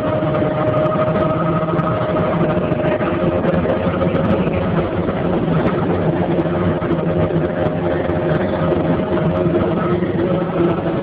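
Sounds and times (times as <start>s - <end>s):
constant whine: 0.0s - 11.0s
helicopter engine and rotor drone: 0.0s - 11.0s.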